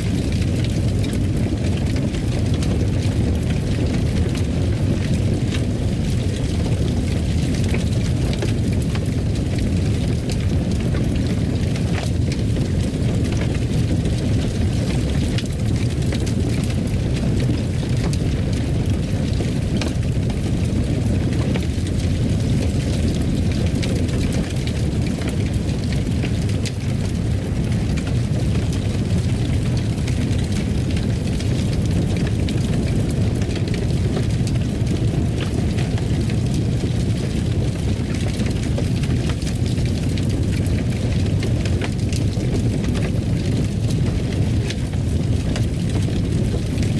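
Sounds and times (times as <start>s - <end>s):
fire crackling and popping: 0.0s - 46.9s
wood fire rumbling: 0.0s - 46.9s.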